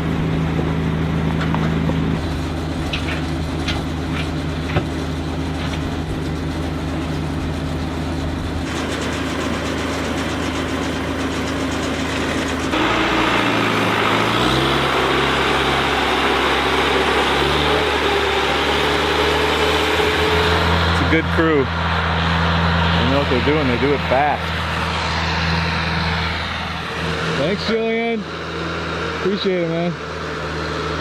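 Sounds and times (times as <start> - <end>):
machine engine running: 0.0 - 31.0.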